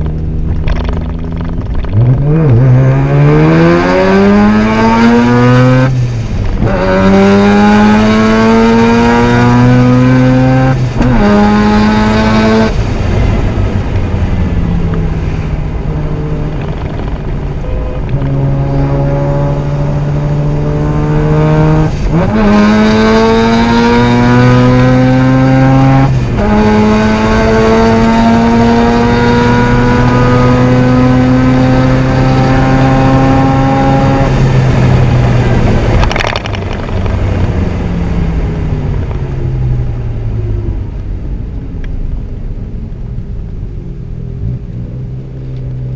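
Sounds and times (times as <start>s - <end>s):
rotary engine accelerating hard: 0.0s - 41.6s.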